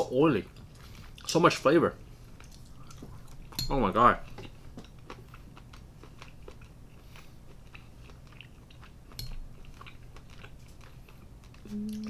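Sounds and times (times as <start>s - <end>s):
chewing and wet mouth sounds: 0.4s - 1.4s, 2.1s - 3.6s, 4.2s - 12.0s.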